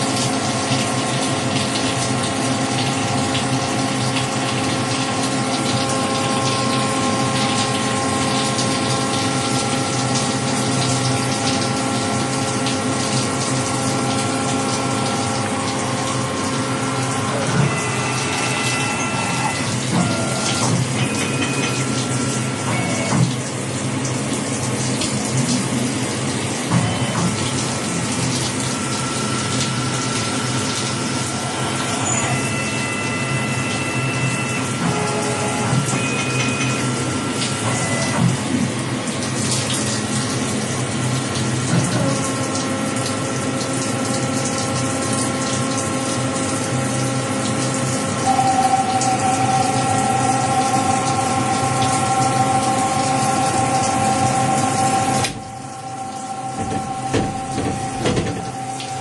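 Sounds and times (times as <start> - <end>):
whining motor tones: 0.0 - 59.0.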